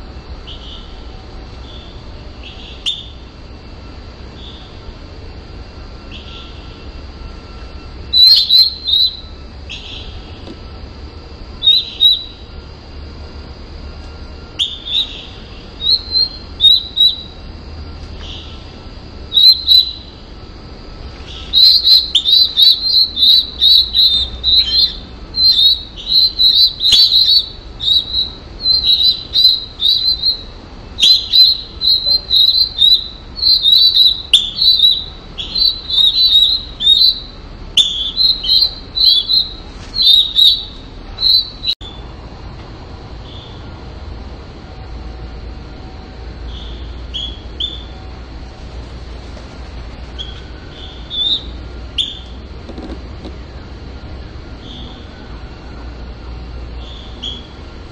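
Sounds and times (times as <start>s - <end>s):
nestlings begging chirps: 0.3s - 42.0s, 46.4s - 48.0s, 50.0s - 52.5s, 54.5s - 55.2s, 56.7s - 57.7s.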